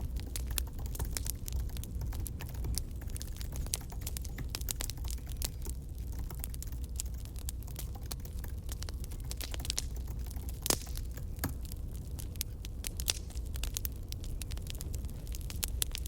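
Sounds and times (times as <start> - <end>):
campfire crackling: 0.0 - 16.0
low steady rumble: 0.0 - 16.0.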